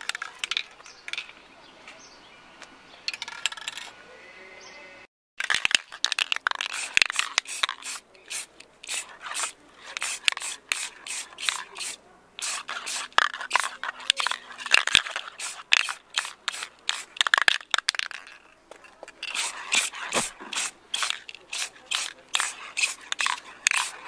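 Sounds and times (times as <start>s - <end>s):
spray paint can rattling: 0.0s - 1.3s, 3.1s - 3.9s, 5.4s - 18.5s, 19.1s - 24.0s.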